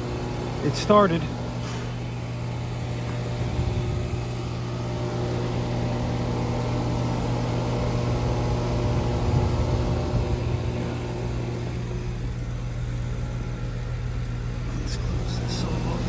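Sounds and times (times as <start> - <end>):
heat pump unit humming: 0.0 - 16.0.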